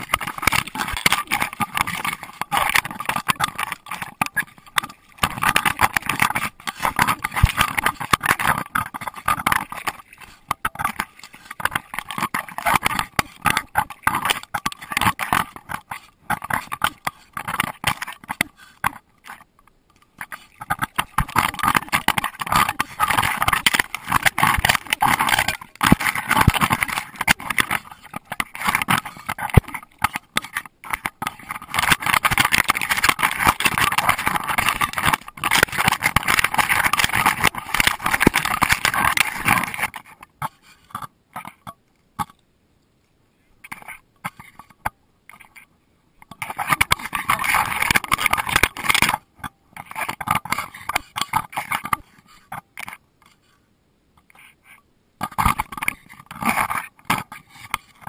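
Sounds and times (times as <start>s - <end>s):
camera housing rubbing and knocking: 0.0s - 42.3s, 43.6s - 45.6s, 46.2s - 53.5s, 55.2s - 58.0s.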